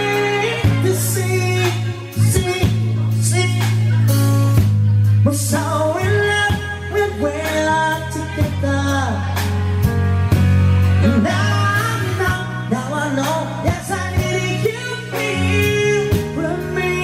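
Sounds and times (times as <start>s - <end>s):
live band playing rock ballad: 0.0s - 17.0s.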